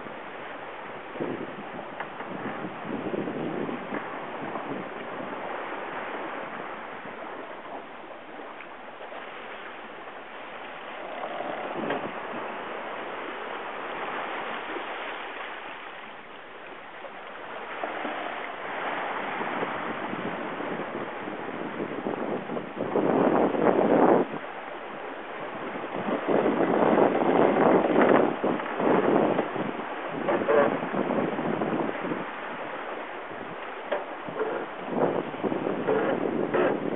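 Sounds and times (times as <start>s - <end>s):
rushing water and waves: 0.0s - 36.9s
wind buffeting microphone: 1.0s - 15.1s, 17.4s - 36.9s.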